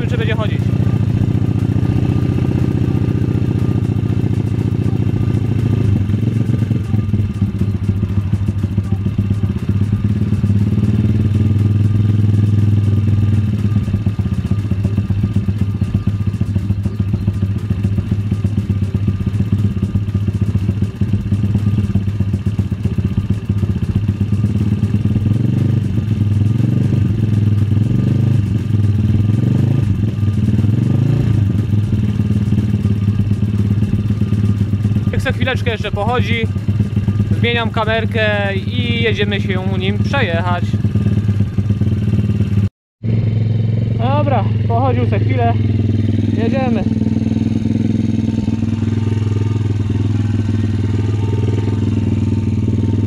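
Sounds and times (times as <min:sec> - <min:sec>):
motorbike engine idling: 0:00.0 - 0:53.0.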